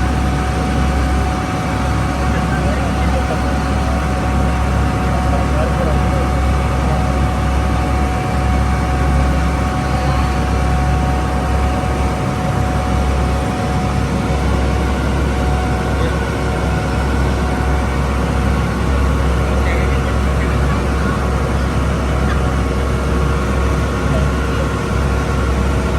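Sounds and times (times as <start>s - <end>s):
boat engine low drone: 0.0s - 25.9s
thin steady whine: 0.0s - 25.9s.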